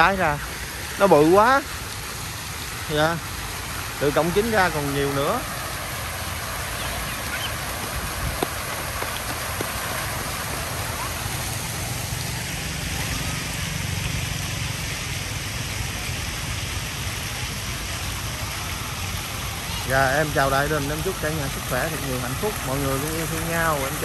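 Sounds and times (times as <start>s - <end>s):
fountain water splashing into pool: 0.0s - 24.0s.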